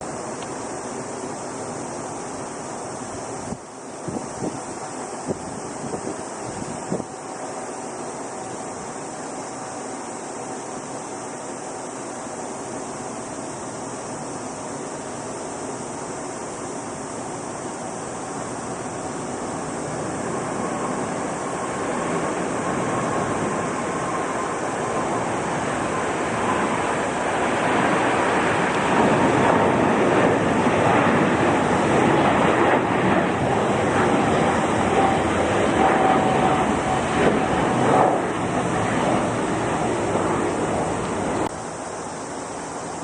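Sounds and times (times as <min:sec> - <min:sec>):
jet engines roaring: 0:00.0 - 0:41.6
faint engine whine: 0:00.0 - 0:43.0.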